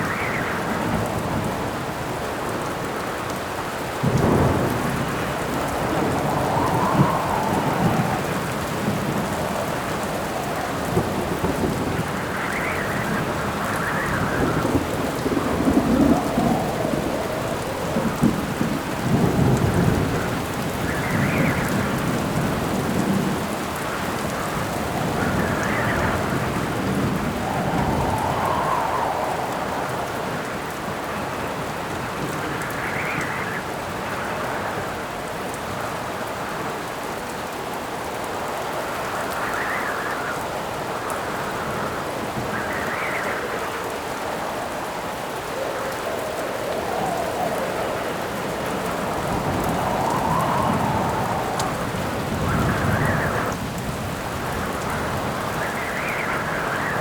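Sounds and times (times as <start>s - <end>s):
gusts of wind: 0.0s - 57.0s
heavy rain: 0.0s - 57.0s
thunder rumbling: 3.8s - 35.8s, 38.8s - 57.0s.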